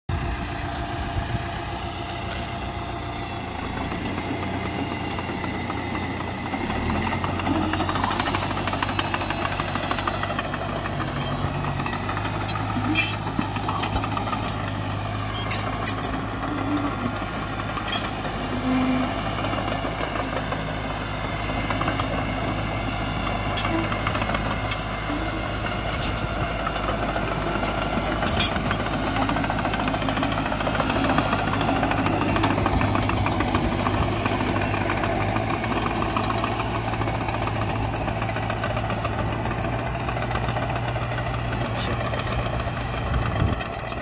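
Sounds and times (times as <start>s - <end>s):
tractor diesel engine running: 0.1s - 44.0s.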